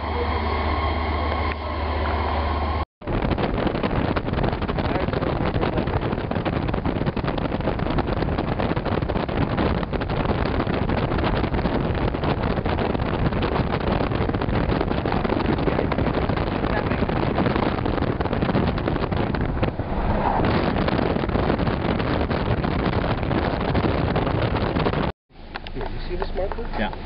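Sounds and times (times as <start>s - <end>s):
vehicle road noise: 0.0s - 24.5s
wind buffeting microphone: 0.0s - 25.1s
steady low hum: 0.0s - 27.0s.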